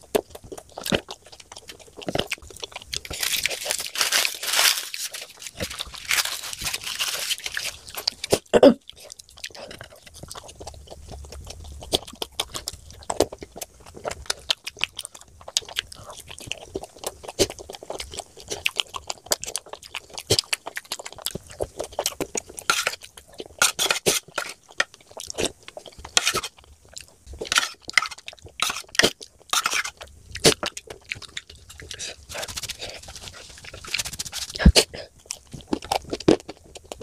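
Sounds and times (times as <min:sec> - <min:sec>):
food crunching: 0:00.0 - 0:37.0
wet chewing and lip smacking: 0:00.0 - 0:37.0.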